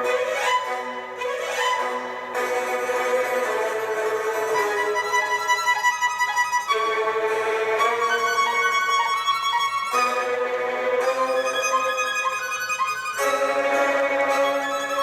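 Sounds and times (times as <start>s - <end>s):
violin music through tablet speakers: 0.0s - 15.0s.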